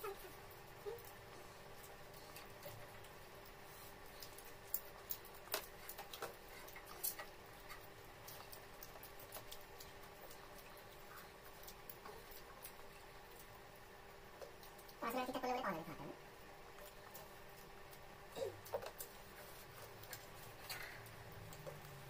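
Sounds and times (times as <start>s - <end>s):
low steady hum: 0.0s - 22.0s
faint clicks and taps: 0.5s - 15.0s, 16.7s - 22.0s.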